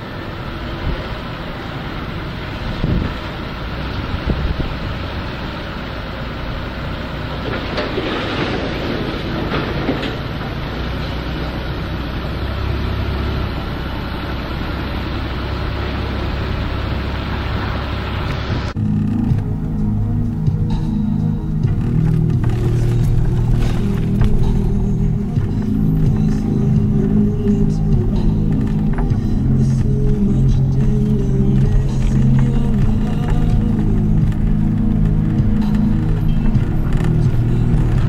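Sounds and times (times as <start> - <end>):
car road and engine noise: 0.0 - 38.0
low rumble: 0.0 - 38.0.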